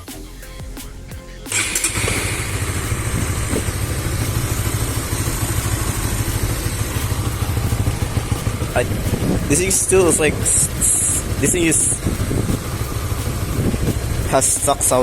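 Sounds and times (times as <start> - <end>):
background music: 0.0 - 15.0
motorcycle engine idling: 1.5 - 15.0.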